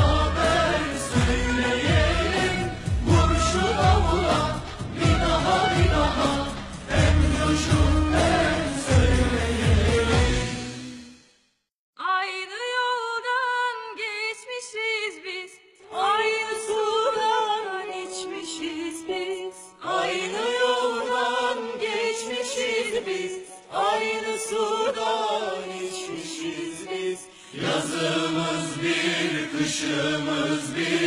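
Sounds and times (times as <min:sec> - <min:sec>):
people singing song: 0:00.0 - 0:11.2, 0:15.8 - 0:31.0.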